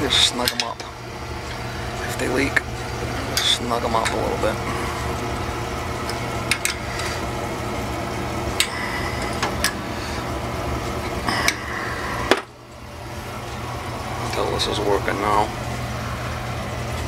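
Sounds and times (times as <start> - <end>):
heating burner mechanical hum: 0.0 - 17.0.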